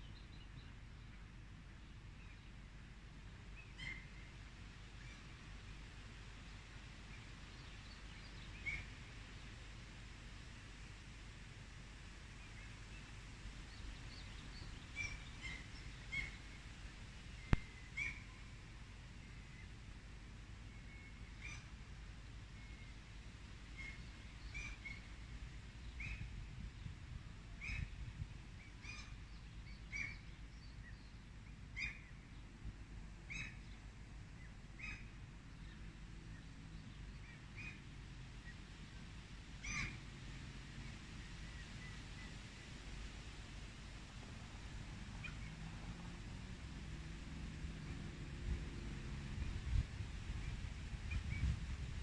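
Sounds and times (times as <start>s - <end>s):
songbird call notes: 0.0s - 9.8s, 12.3s - 43.1s, 45.0s - 46.2s, 47.8s - 52.0s.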